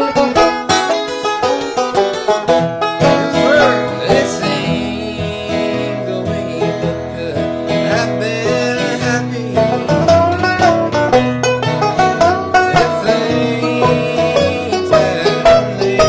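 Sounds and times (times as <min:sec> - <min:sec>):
banjo picking: 0:00.0 - 0:16.0
guitar picking: 0:00.0 - 0:16.0.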